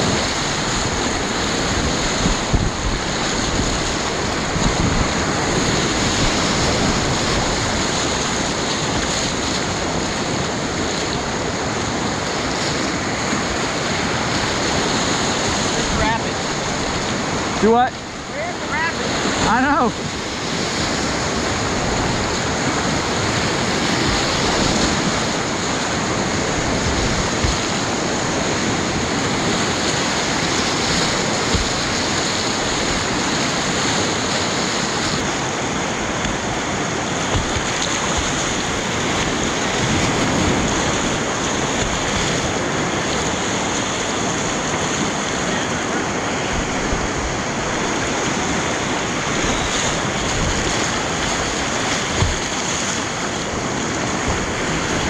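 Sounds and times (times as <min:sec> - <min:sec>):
whitewater rapids rushing: 0:00.0 - 0:55.0.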